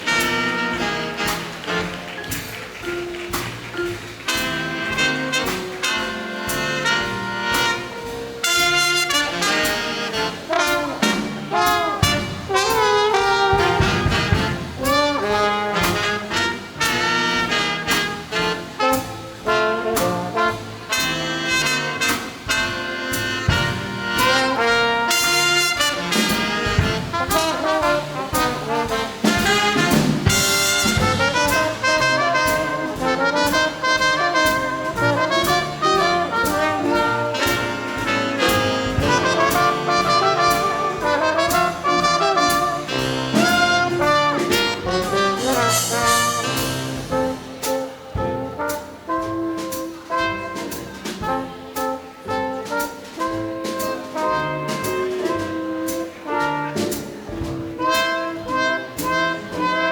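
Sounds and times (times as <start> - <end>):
big band jazz: 0.0 - 59.9
brass ensemble chords: 0.0 - 59.9.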